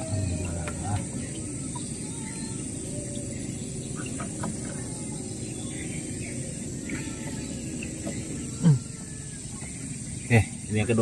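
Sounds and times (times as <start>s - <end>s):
faint chirps: 0.0s - 11.0s
high insect drone: 0.0s - 11.0s
low continuous rumble: 0.0s - 11.0s.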